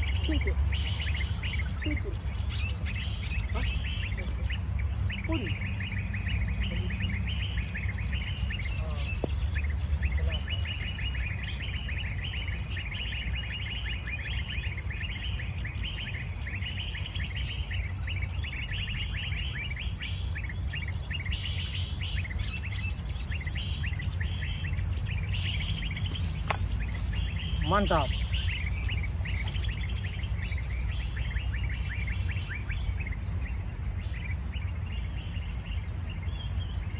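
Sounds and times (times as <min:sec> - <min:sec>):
bird chattering: 0:00.0 - 0:33.2.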